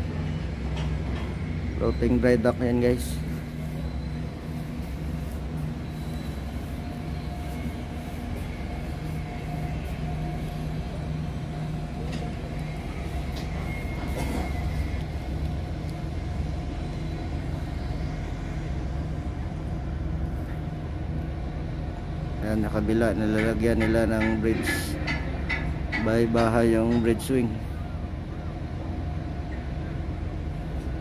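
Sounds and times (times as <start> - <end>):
ship engine drone: 0.0 - 31.0.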